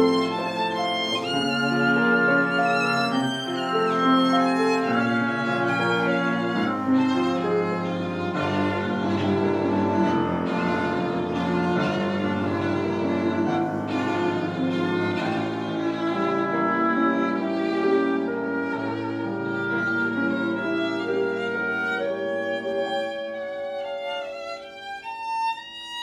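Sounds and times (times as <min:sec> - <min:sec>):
cello sustaining notes: 0:00.0 - 0:26.0
piano: 0:00.0 - 0:26.0
violin: 0:00.0 - 0:26.0.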